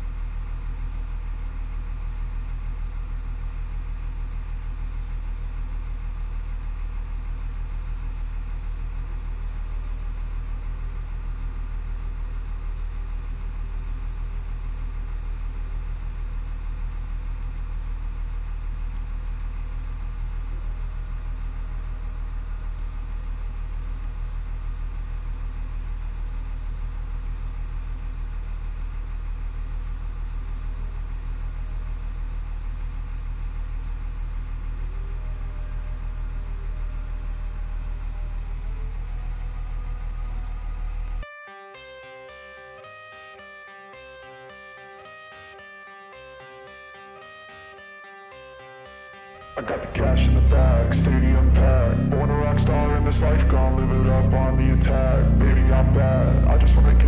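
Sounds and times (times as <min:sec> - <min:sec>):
diesel engine idling: 0:00.0 - 0:41.2, 0:49.6 - 0:57.0.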